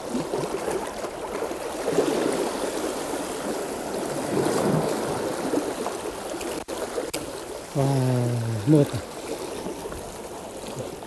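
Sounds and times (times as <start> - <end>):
sea waves rushing: 0.0 - 11.0
wind: 0.0 - 11.0.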